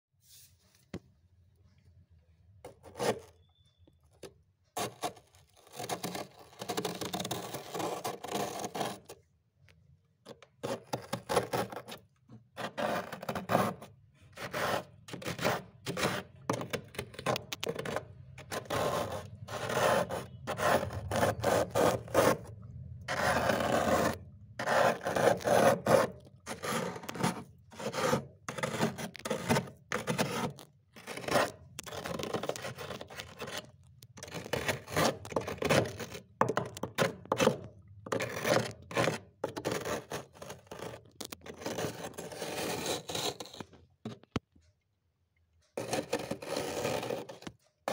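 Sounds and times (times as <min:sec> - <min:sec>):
metal spoon scraping frost: 0:02.7 - 0:03.8, 0:04.8 - 0:09.2, 0:12.6 - 0:43.8, 0:45.8 - 0:47.9.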